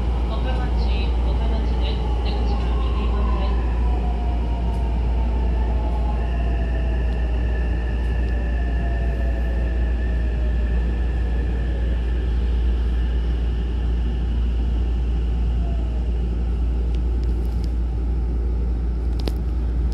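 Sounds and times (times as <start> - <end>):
train running rumble: 0.0 - 19.9.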